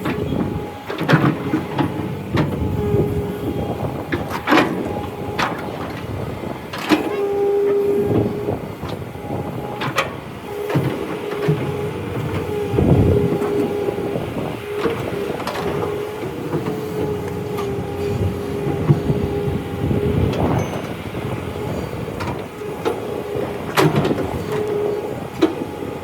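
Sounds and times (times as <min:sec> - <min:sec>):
clanks and knocks: 0:00.0 - 0:25.7
excavator mechanical whine: 0:00.0 - 0:26.0.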